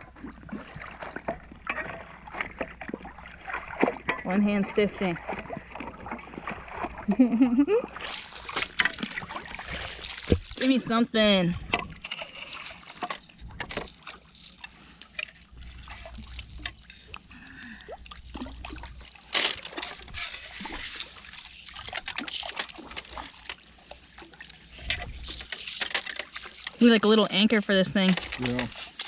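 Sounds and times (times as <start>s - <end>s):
water sloshing through mesh: 0.0s - 29.0s.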